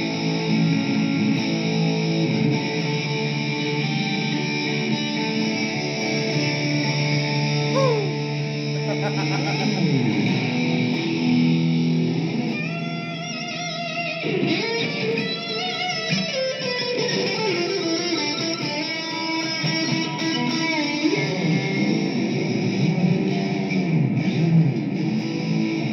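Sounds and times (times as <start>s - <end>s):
electric guitar playing: 0.0s - 25.9s.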